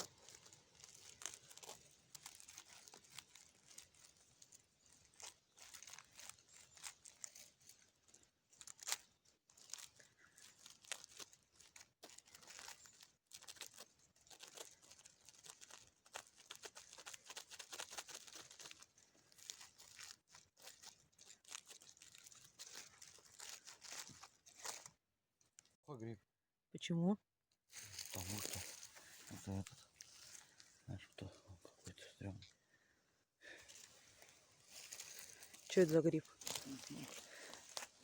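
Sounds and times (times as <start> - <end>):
dry forest litter crunching: 0.0 - 25.0, 27.7 - 38.0.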